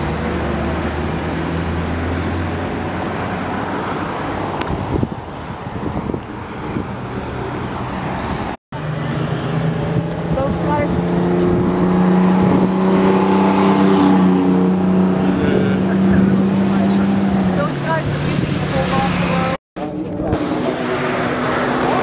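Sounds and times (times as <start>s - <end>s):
road noise: 0.0s - 22.0s
vehicle engine hum: 0.0s - 22.0s.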